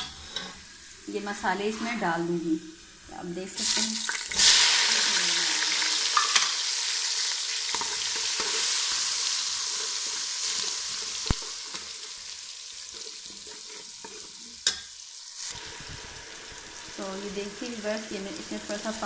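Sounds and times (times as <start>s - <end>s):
tomatoes sizzling in hot oil: 0.0s - 19.0s.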